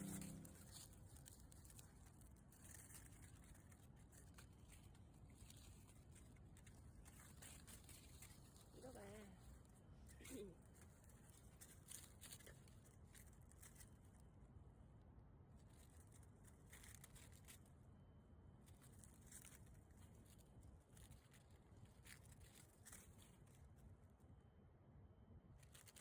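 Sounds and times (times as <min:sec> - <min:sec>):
faint crackling and rustling: 0:00.0 - 0:24.5, 0:25.4 - 0:26.0.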